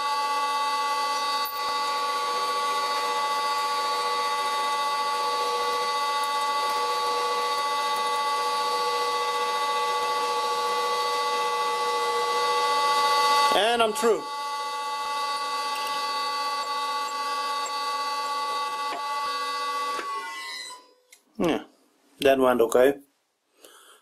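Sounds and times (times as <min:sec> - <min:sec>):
metal lathe machine whine: 0:00.0 - 0:20.9
drill cutting metal: 0:00.0 - 0:21.0.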